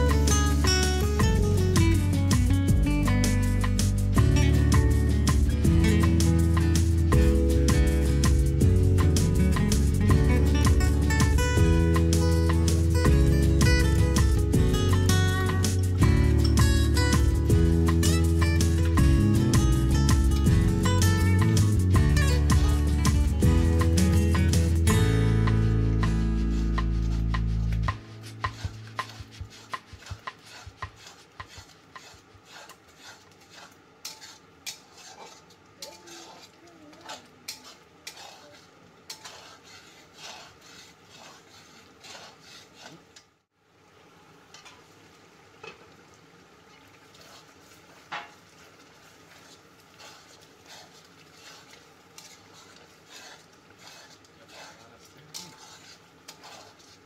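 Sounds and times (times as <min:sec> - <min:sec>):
metal spatula scraping a pan: 0:00.0 - 0:43.2, 0:46.7 - 0:57.0.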